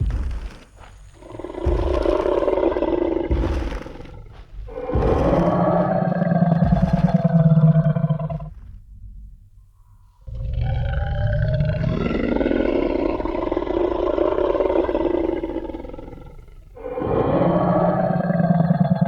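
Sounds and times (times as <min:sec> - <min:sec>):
dinosaur roar: 0:00.0 - 0:08.6, 0:10.2 - 0:19.0
deep steady growl: 0:00.0 - 0:19.0.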